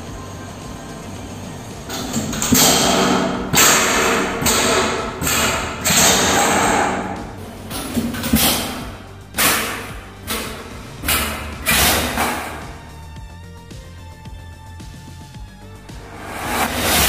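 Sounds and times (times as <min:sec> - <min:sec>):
ceiling fan crashing down: 0:00.0 - 0:17.0
low steady hum: 0:00.0 - 0:17.0.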